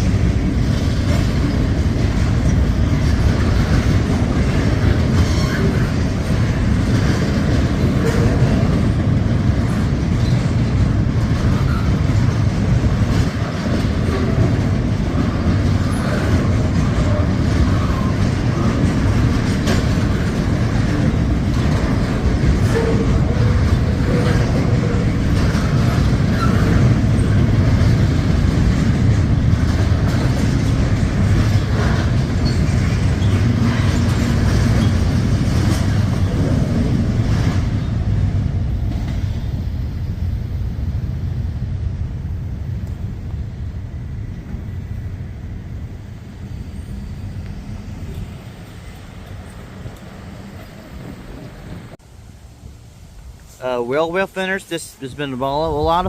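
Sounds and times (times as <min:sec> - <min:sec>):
clicks of wheels on rail: 0:00.0 - 0:39.6, 0:46.7 - 0:52.0
freight train wheels rumbling on rail: 0:00.0 - 0:56.0.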